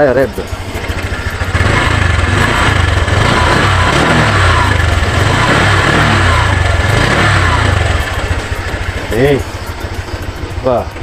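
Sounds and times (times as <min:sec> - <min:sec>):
scooter engine revving: 0:00.0 - 0:11.0.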